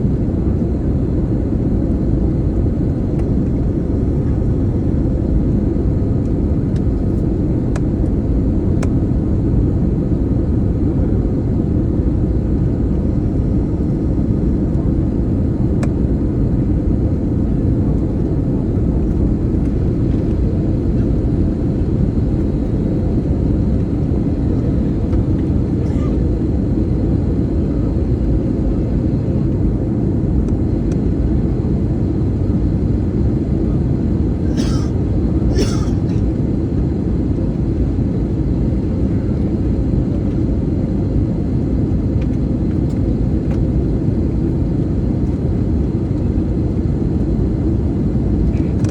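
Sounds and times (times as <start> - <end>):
airliner cabin engine roar: 0.0 - 48.9.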